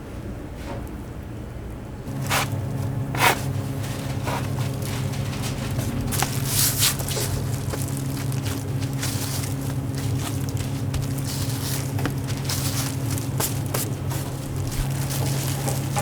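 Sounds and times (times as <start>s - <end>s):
kitchen equipment humming: 2.0s - 16.0s
scraping and clattering food: 2.1s - 16.0s.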